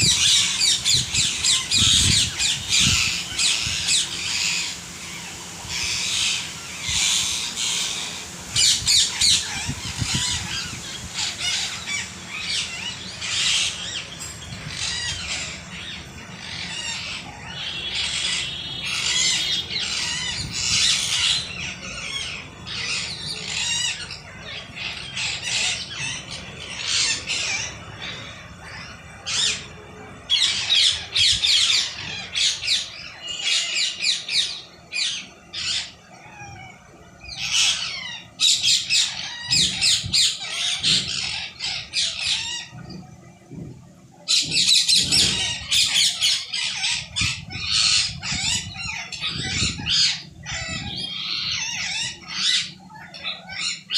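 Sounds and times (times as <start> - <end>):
parrots squawking: 0.0 - 53.9.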